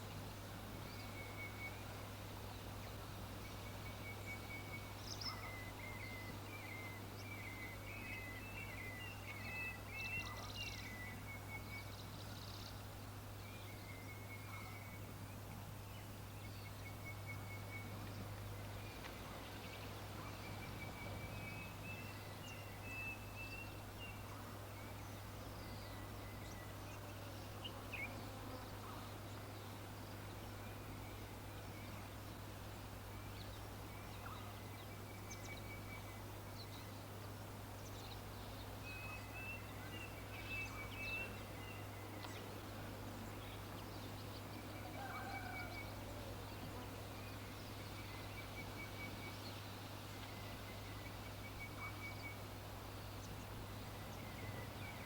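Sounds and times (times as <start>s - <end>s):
faint bird chirps: 0.0s - 32.2s, 37.8s - 55.0s.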